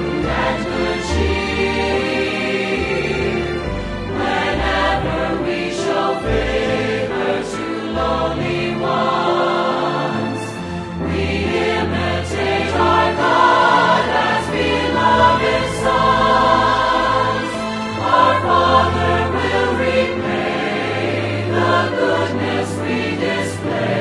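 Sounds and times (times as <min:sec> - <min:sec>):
choir singing sustained lines: 0:00.0 - 0:24.0.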